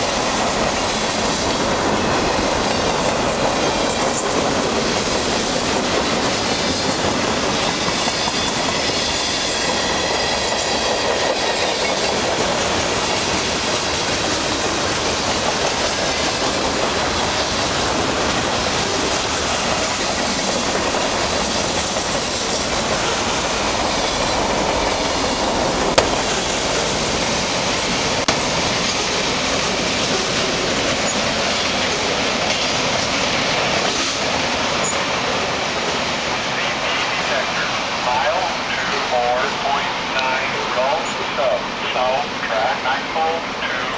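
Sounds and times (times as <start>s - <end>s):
clickety-clack over rail joints: 0.0s - 37.8s
train wheels rumbling on rails: 0.0s - 43.9s.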